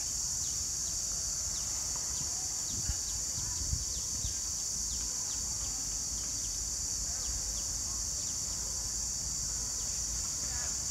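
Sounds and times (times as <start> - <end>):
high-pitched insect drone: 0.0 - 10.9.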